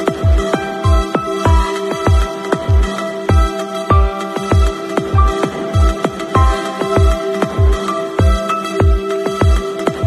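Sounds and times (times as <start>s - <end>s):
deep kick drum: 0.2s - 9.6s.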